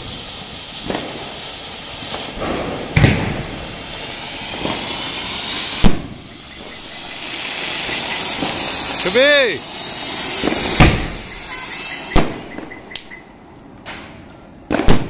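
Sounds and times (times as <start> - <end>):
sharp firework bangs: 0.0 - 13.2, 13.8 - 15.0
firework sparks hissing: 0.0 - 13.4.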